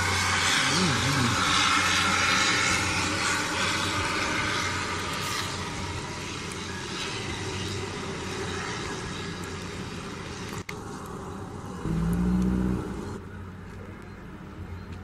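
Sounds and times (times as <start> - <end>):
low hum: 0.0 - 14.2
distant airplane engines rushing: 0.0 - 15.0.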